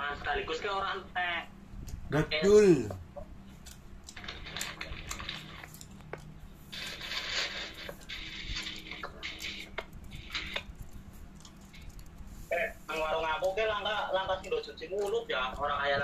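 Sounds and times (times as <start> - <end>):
faint steady hum: 0.0 - 16.0
clicks and rustling while eating: 2.9 - 16.0.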